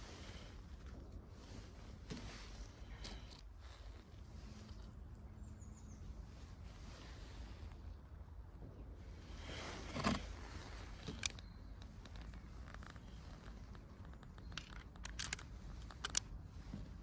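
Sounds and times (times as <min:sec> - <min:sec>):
handling rustle: 0:00.0 - 0:08.0, 0:09.2 - 0:17.0.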